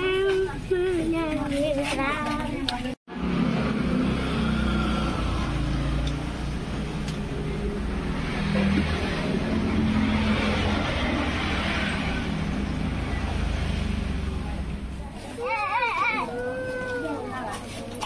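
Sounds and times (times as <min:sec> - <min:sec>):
road noise: 0:00.0 - 0:18.0
vehicle engines humming: 0:03.1 - 0:17.9.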